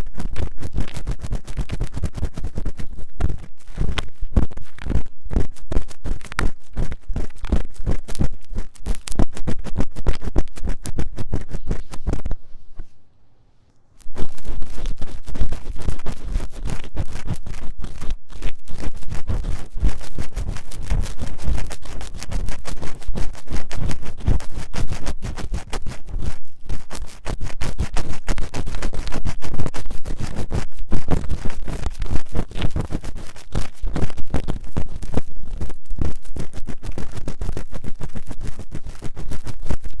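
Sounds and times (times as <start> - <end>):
ear-cleaning tool scratching: 0.0 - 13.0, 14.0 - 40.0.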